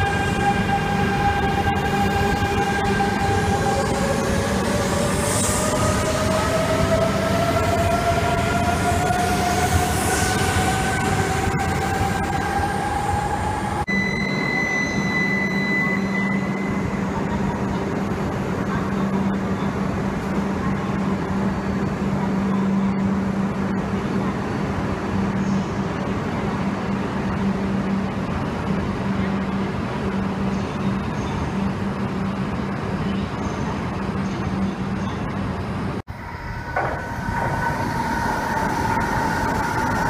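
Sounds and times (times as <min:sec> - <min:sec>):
train low hum: 0:00.0 - 0:40.0.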